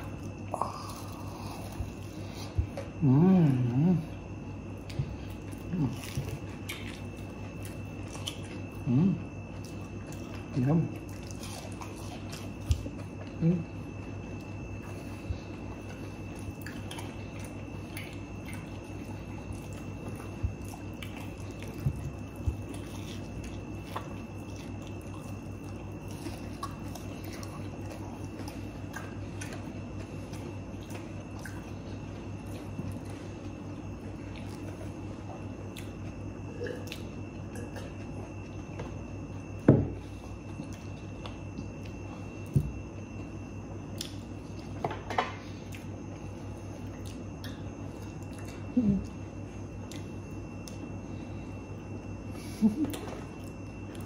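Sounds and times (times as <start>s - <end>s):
chewing and biting food: 0.0s - 54.0s
steady hum: 0.0s - 54.0s.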